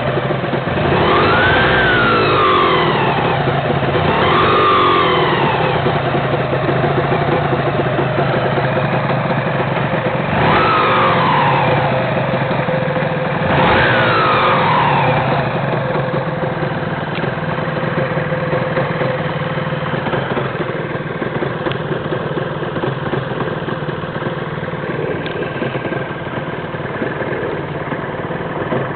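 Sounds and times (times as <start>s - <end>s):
engine revving: 0.0s - 28.9s
heavy mechanical engine noise: 0.0s - 28.9s
motorcycle engine idling: 0.0s - 28.9s.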